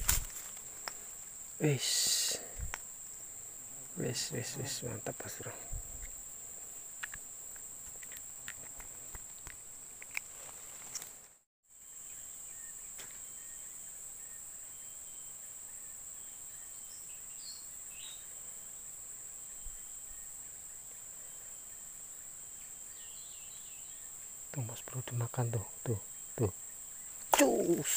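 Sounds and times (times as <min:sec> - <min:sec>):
insect chorus drone: 0:00.0 - 0:27.9.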